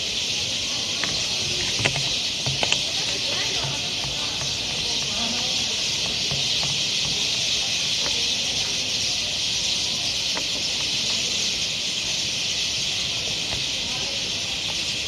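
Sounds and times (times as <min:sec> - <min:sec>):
flock of birds chattering: 0:00.0 - 0:15.0.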